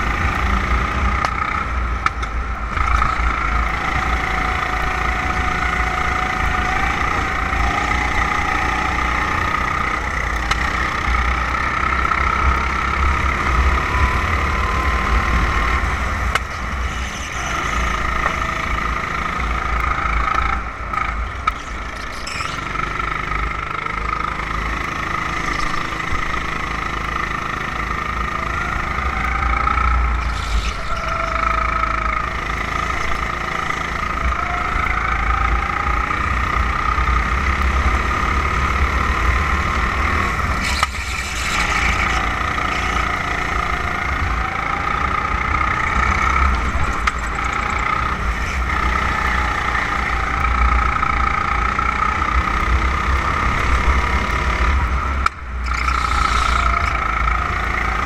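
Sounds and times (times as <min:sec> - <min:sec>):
kart engine revving: 0:00.0 - 0:58.0
wind and vibration rumble: 0:00.0 - 0:58.0.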